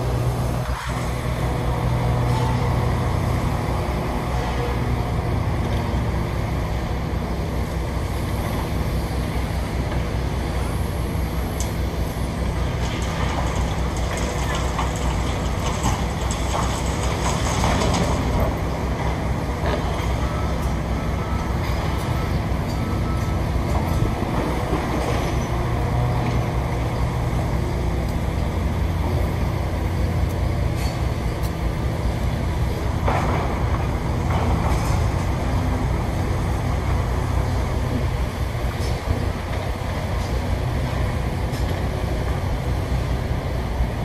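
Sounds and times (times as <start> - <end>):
diesel engines rumbling: 0.0 - 44.0.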